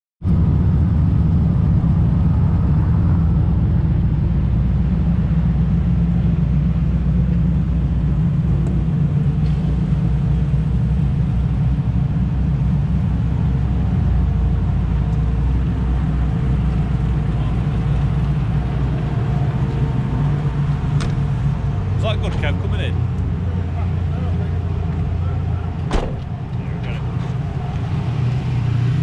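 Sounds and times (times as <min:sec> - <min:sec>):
car engines idling: 0:00.3 - 0:29.0.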